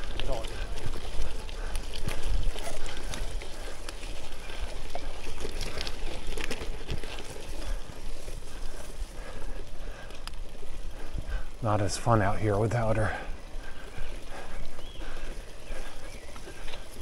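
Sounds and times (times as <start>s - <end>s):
bike tyres crunching over gravel: 0.0s - 17.0s.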